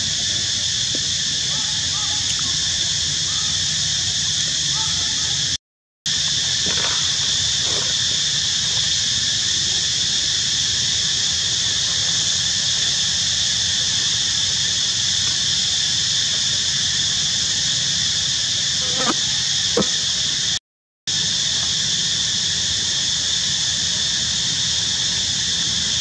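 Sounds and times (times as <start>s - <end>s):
buzzing insect chorus: 0.0s - 26.0s.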